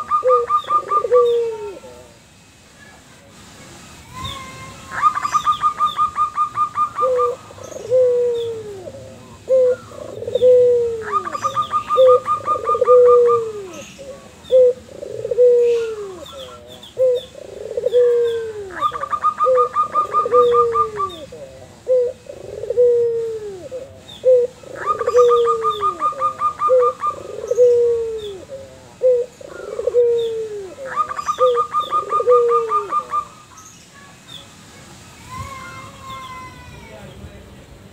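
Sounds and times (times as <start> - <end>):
dove cooing: 0.0 - 2.2, 4.9 - 33.5
dove rapid pulsed calls: 0.0 - 2.2, 4.2 - 34.5.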